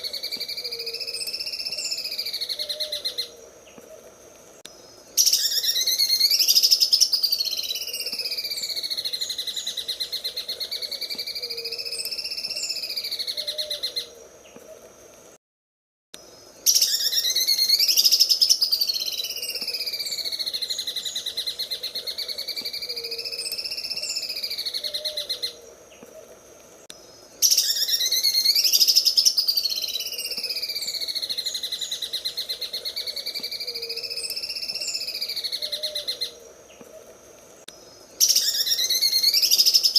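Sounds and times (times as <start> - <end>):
bird singing buzzing rattle: 0.0 - 15.4, 16.2 - 39.9.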